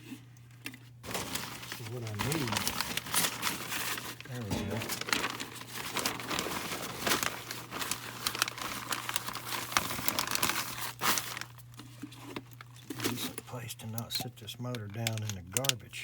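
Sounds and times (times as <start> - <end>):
steady low hum: 0.1 - 9.4, 11.4 - 16.0
plastic crinkling and rustling: 0.6 - 16.0.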